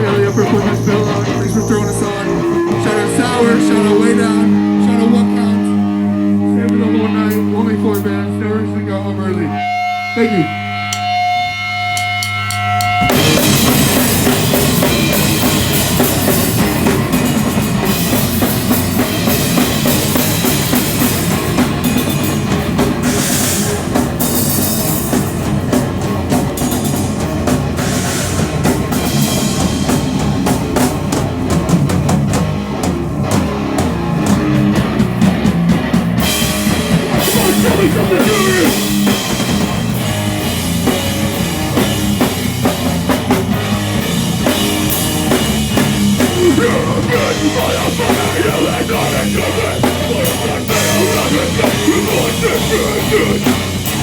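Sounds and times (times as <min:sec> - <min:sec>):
live rock band playing: 0:00.0 - 0:08.4, 0:09.6 - 0:54.0.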